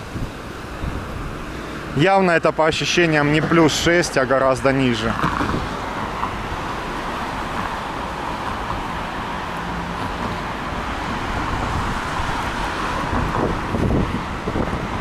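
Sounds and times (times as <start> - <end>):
road traffic: 0.0 - 15.0
wind rumbling on microphone: 0.0 - 15.0.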